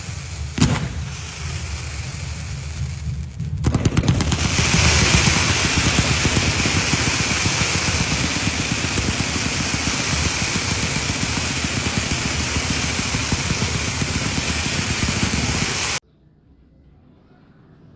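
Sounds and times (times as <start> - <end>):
firecrackers popping: 0.0 - 16.0
steady hiss: 0.0 - 16.0.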